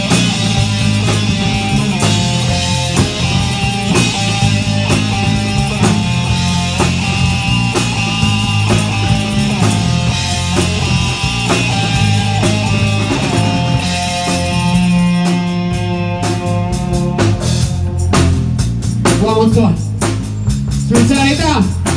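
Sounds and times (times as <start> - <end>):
live rock band playing: 0.0 - 21.9.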